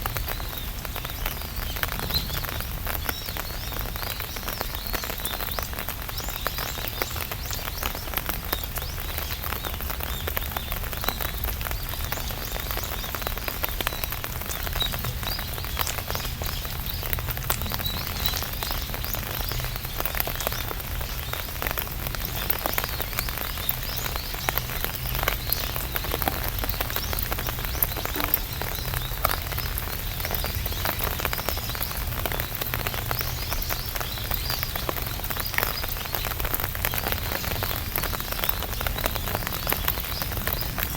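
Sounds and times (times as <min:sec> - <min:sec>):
rain pattering on umbrella: 0:00.0 - 0:40.9.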